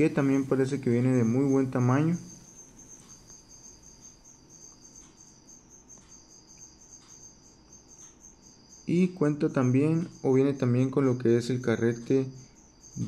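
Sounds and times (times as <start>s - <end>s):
high-pitched insect chirping: 0.0s - 13.0s.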